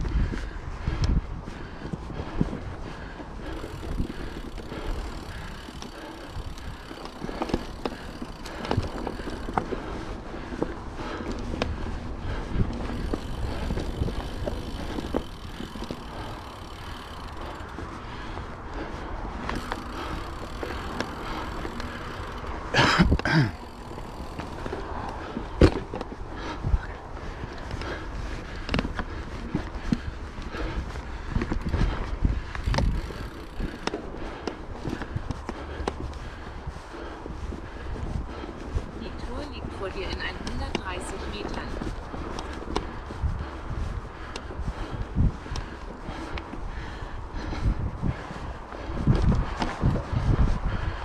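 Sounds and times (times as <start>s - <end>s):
bike clicks and rattles: 0.0s - 51.0s
bike tyres rolling on trail: 0.0s - 51.0s
wind noise: 0.0s - 51.0s.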